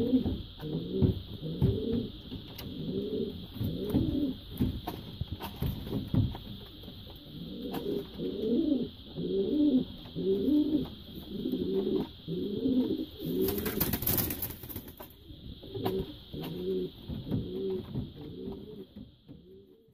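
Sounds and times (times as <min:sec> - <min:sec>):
pigeon cooing: 0:00.0 - 0:19.9.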